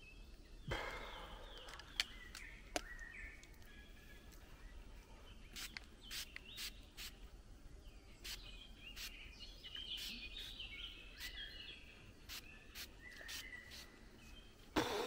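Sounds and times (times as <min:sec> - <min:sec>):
birds chirping and singing: 0:00.0 - 0:15.0
low background noise: 0:00.0 - 0:15.0.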